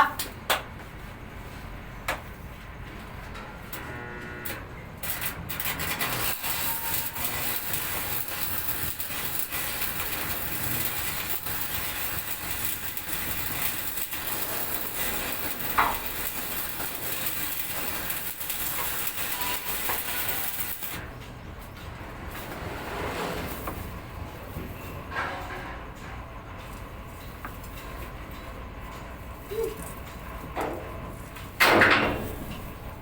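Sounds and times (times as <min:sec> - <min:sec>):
arc welding crackle and sizzle: 0:02.2 - 0:25.0, 0:25.8 - 0:33.0.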